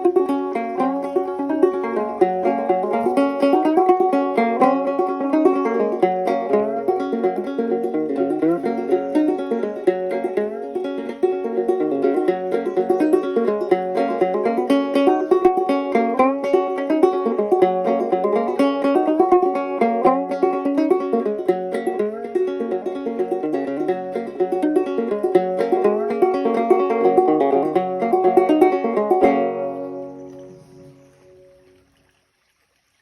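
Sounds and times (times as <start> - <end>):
banjo strummed chord: 0.0 - 31.5
banjo plucked notes: 0.0 - 31.7.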